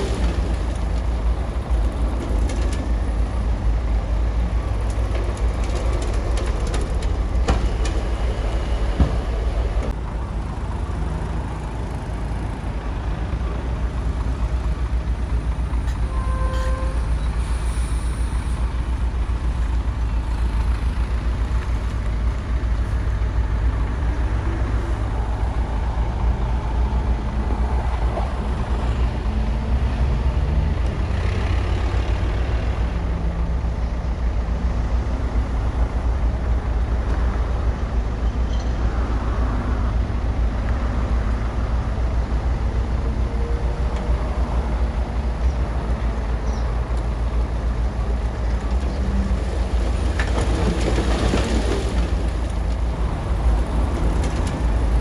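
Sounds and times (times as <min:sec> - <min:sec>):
bulldozer diesel engine rumbling: 0:00.0 - 0:55.0.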